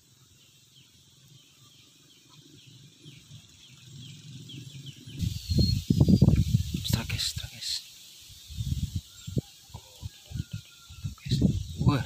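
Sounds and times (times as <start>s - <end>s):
bird chirping: 0.0s - 12.0s
steady high hiss: 0.0s - 12.0s.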